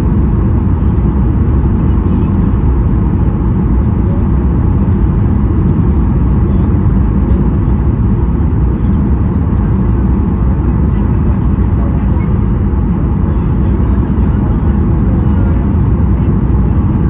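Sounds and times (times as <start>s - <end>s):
airliner low rumble: 0.0s - 17.0s.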